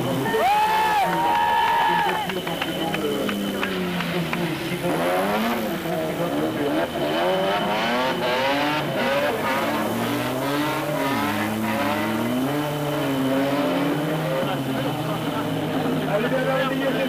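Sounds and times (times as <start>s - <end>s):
car engine revving hard: 0.0s - 1.3s, 2.3s - 17.0s.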